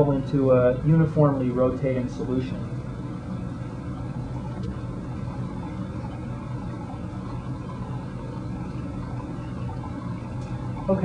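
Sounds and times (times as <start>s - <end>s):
water pump humming: 0.0s - 11.0s.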